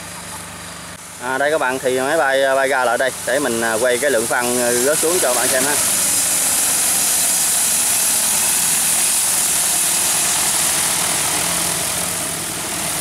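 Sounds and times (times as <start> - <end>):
drone rotors humming: 0.0 - 13.0.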